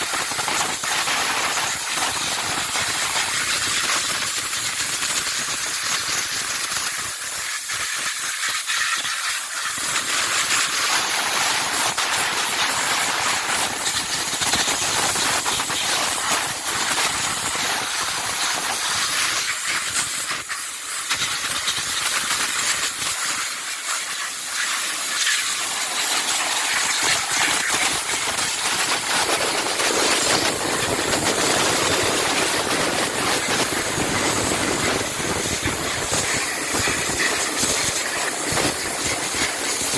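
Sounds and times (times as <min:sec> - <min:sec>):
high-pressure water jet hissing: 0:00.0 - 0:39.9.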